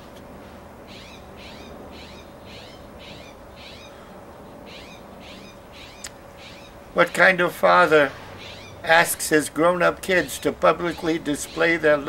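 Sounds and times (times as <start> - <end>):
bird chirping: 0.0 - 7.2, 7.8 - 12.0.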